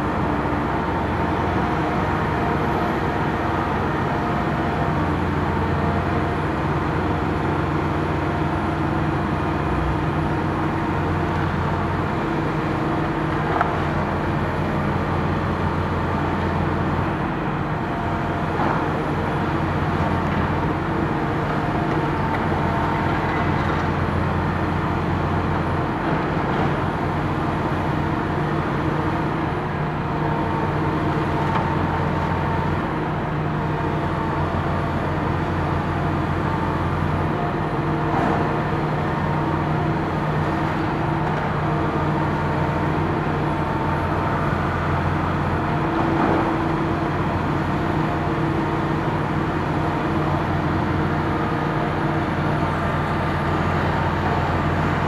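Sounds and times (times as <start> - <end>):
excavator diesel engines running: 0.0 - 55.0.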